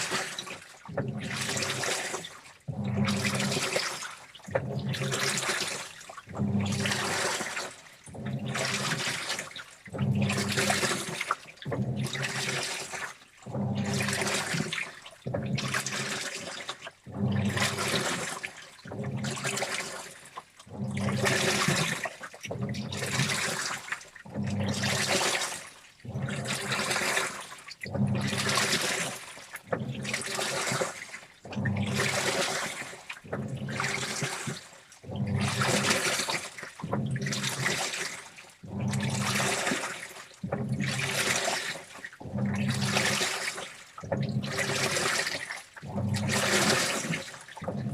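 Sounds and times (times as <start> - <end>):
water sloshing in washing machine drum: 0.0 - 47.9.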